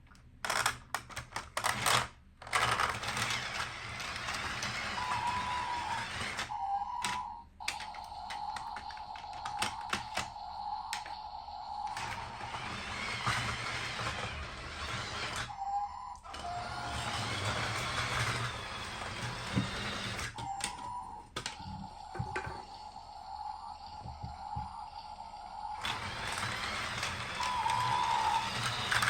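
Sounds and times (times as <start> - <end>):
toy train whirring and rattling: 0.4 - 29.0.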